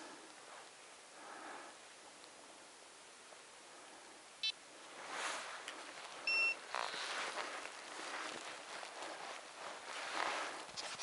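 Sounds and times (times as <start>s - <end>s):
faint outdoor hiss: 0.0s - 11.0s
soft breaths close to microphone: 0.0s - 11.0s.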